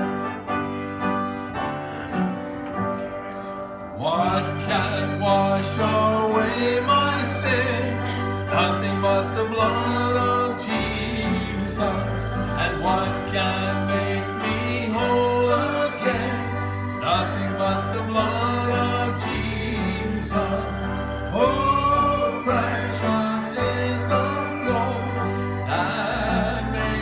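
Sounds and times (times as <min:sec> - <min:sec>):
instrumental accompaniment: 0:00.0 - 0:27.0
man singing into microphone: 0:04.0 - 0:27.0.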